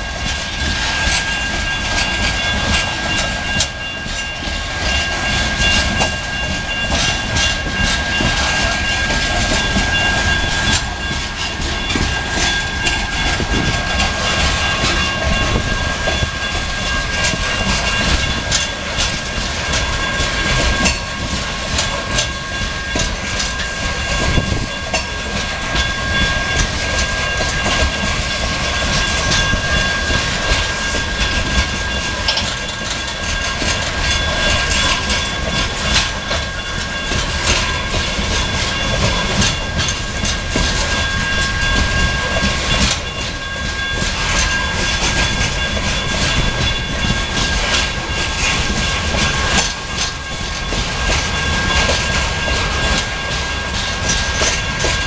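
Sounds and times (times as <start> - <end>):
train wheels clacking over rails: 0.0 - 55.0.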